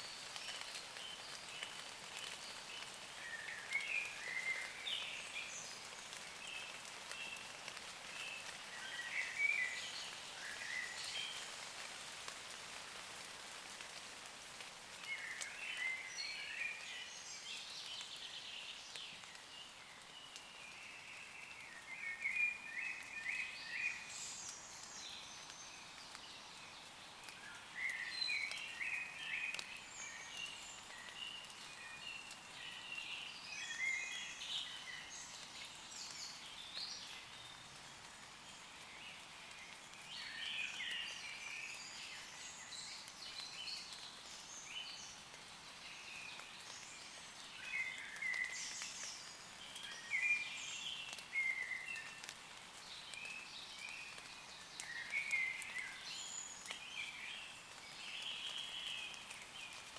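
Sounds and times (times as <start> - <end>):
birds singing: 0.0 - 7.5, 8.1 - 11.5, 15.1 - 52.2, 52.8 - 59.9
light rain pattering on leaves: 0.0 - 59.9.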